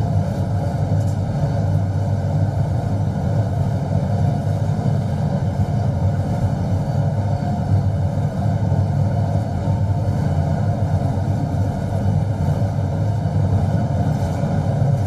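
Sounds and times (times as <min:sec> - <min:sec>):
diesel train engine drone: 0:00.0 - 0:15.0
train rumble on track: 0:00.0 - 0:15.0.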